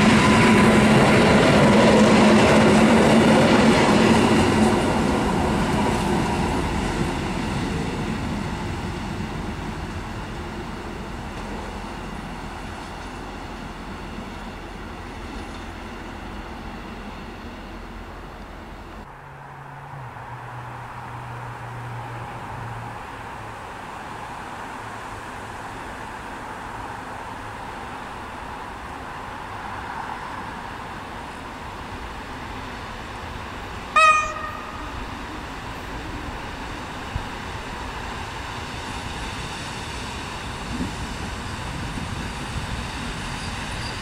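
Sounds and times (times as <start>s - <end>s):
distant railway rumble: 0.0s - 44.0s
electric train approaching: 0.0s - 44.0s.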